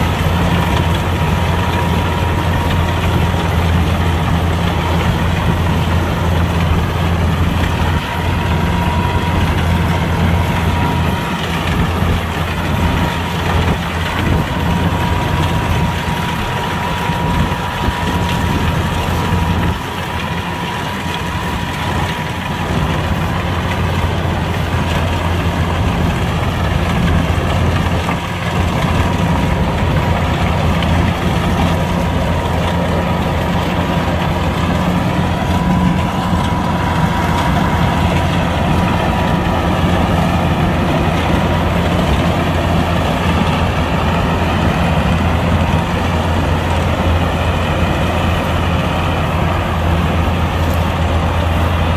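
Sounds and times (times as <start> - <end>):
diesel engine droning: 0.0 - 51.9.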